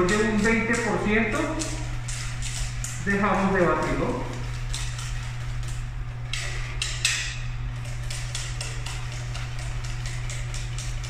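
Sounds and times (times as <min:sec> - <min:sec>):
steady low hum: 0:00.0 - 0:11.0
whisk scraping metal saucepan: 0:00.0 - 0:11.0.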